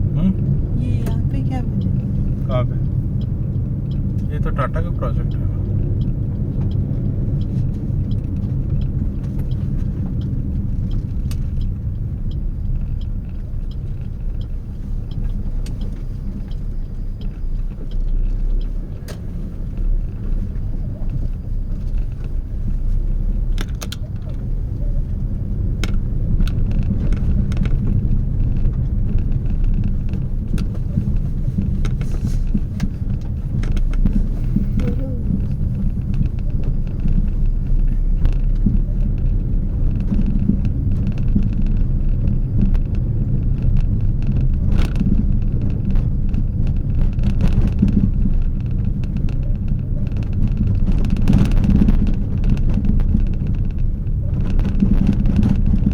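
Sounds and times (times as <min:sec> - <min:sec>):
car driving low rumble: 0:00.0 - 0:55.9
light clicks and taps: 0:01.0 - 0:55.9.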